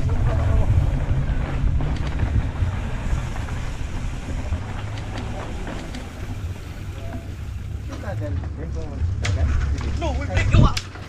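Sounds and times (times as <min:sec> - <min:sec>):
wind buffeting microphone: 0:00.0 - 0:07.9, 0:08.8 - 0:11.0
bike tyres crunching on dirt: 0:00.0 - 0:11.0.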